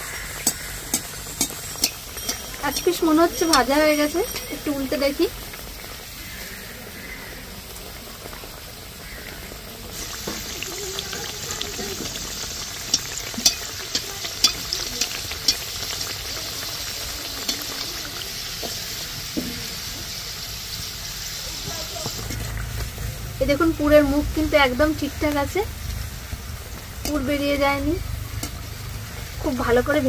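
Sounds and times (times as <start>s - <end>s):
oil sizzling: 0.0s - 30.0s.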